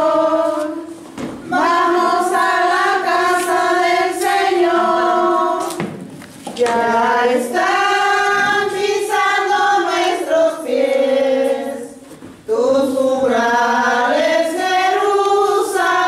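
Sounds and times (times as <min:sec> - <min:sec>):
group singing a slow hymn: 0:00.0 - 0:16.0.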